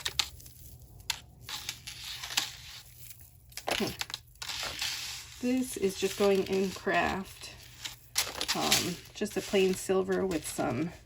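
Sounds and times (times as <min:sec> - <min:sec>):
jewelry crinkling and rustling: 0:00.0 - 0:11.0.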